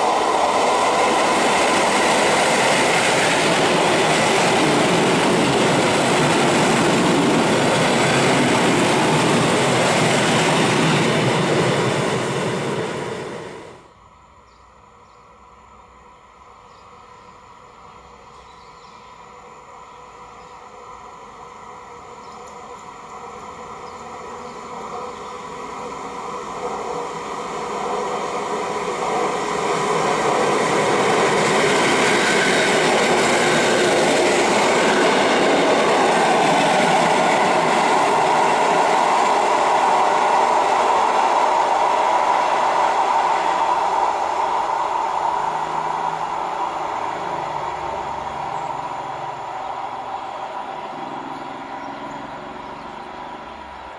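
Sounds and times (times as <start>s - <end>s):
train passing on rails: 0.0s - 53.9s.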